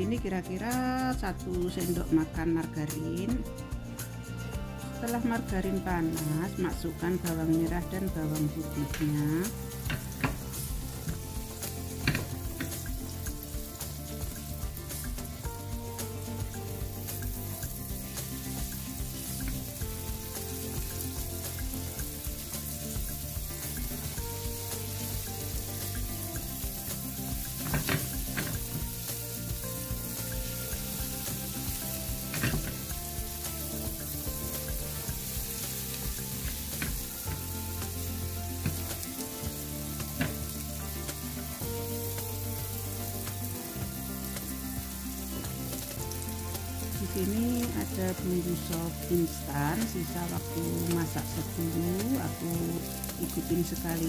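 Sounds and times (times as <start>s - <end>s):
low background music: 0.0s - 54.0s
shallots and garlic sizzling: 0.0s - 54.0s.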